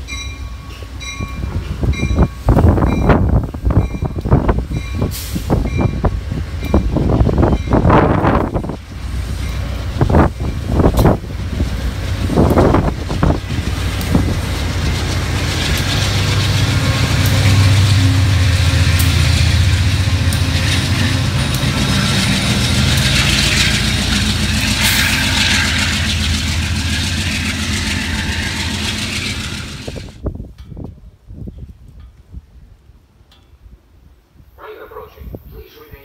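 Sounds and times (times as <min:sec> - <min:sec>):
diesel locomotive engine droning: 0:00.0 - 0:30.5
train wheels on rails: 0:00.0 - 0:32.3.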